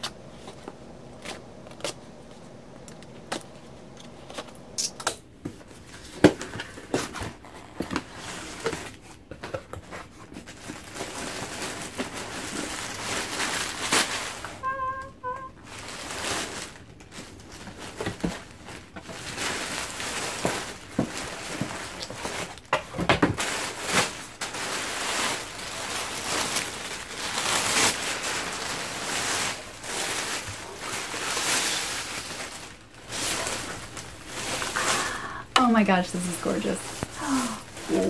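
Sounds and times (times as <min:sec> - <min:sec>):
wrapping and tulle rustling: 0:05.6 - 0:22.7, 0:23.3 - 0:38.0.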